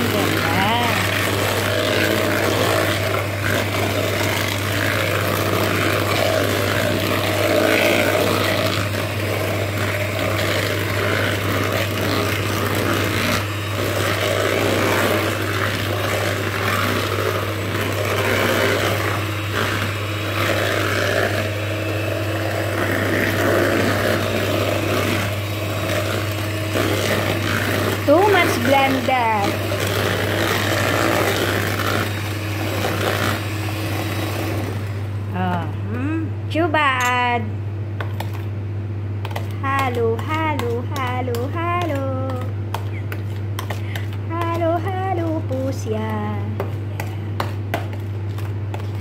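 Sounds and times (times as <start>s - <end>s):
electric hand mixer whirring: 0.0s - 35.7s, 38.0s - 49.0s.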